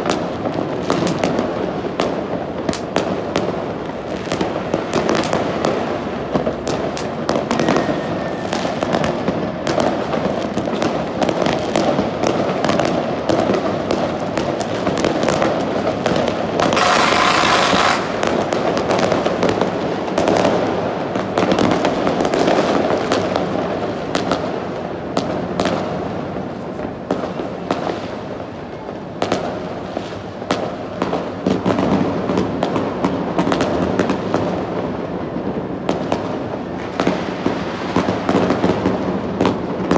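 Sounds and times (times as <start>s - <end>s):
fireworks and firecrackers: 0.0s - 39.9s.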